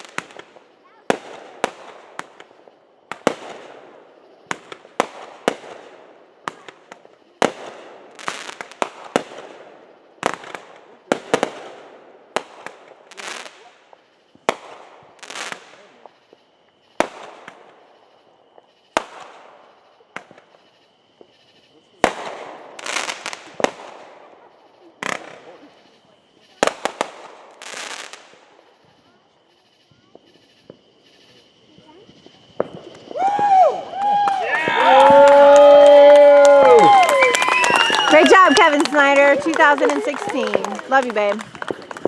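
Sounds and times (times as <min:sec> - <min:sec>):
crackling hiss: 0:00.0 - 0:42.0
firework shells bursting: 0:00.0 - 0:42.0.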